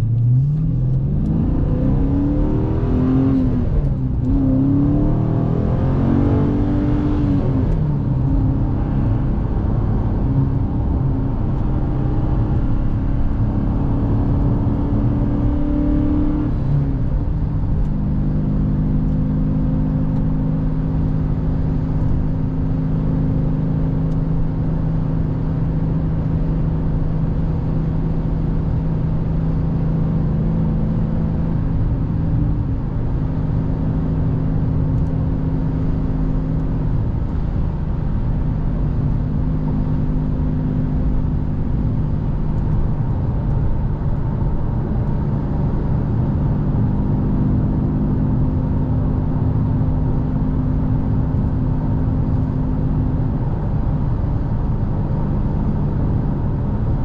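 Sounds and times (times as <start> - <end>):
car engine droning: 0.0 - 57.0.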